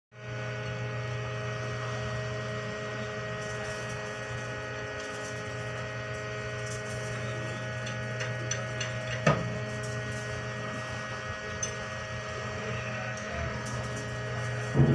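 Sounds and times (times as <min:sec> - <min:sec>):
ship machinery humming: 0:00.2 - 0:14.9.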